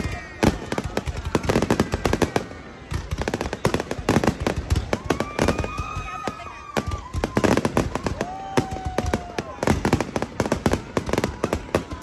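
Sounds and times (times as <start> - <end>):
fireworks cracking and banging: 0.0 - 12.0.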